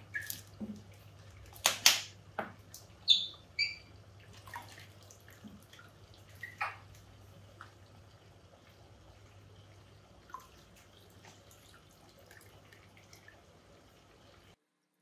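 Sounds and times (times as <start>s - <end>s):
water dripping: 0.0s - 14.9s.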